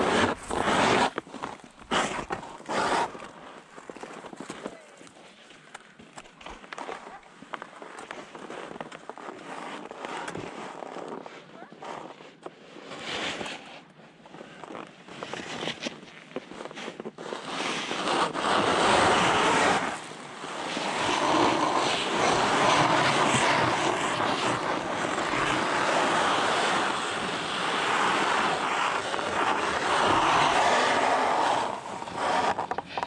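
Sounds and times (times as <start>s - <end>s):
skis scraping on hard snow: 0.0s - 33.0s.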